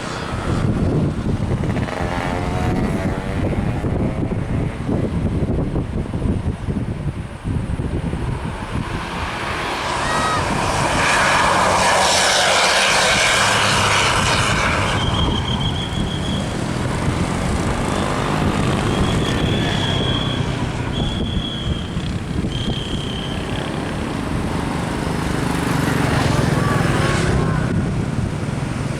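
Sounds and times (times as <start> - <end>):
vehicle passing close: 0.0 - 5.6, 7.5 - 28.9.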